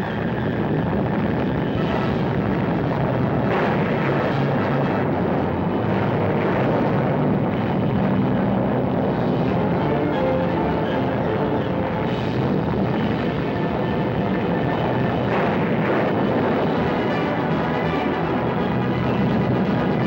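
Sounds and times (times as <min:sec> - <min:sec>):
blast wave roar: 0:00.0 - 0:20.0.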